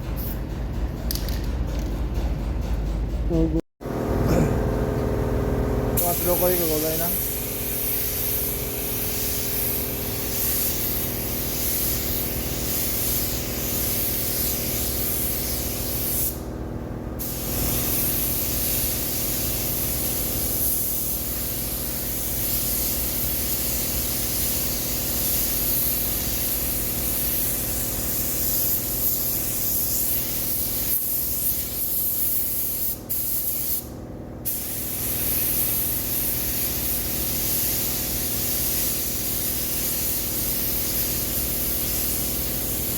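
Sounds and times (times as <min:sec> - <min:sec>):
paint spray gun hissing: 0:06.0 - 0:16.4, 0:17.2 - 0:42.9.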